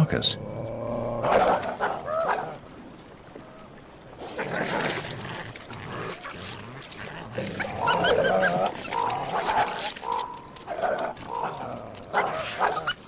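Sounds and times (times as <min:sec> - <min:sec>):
wild canids yipping and whining: 0:01.3 - 0:13.0.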